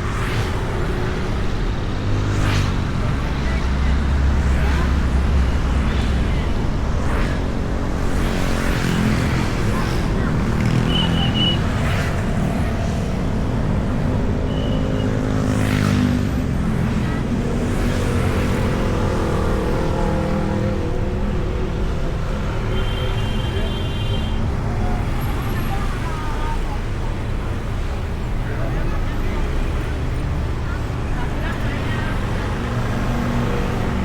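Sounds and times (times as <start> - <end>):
motor vehicle engines running: 0.0 - 34.0.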